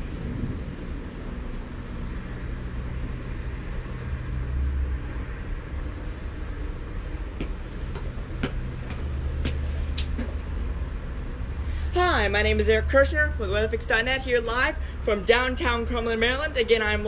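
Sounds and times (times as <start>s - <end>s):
gusty wind: 0.0s - 17.0s.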